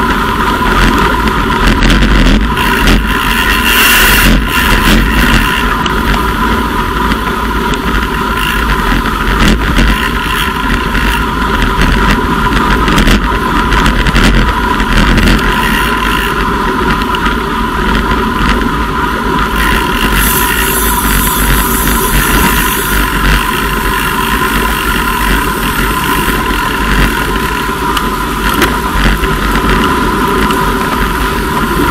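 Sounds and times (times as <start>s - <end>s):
thin steady whine: 0.0s - 31.9s
wind rushing over microphone: 0.0s - 31.9s.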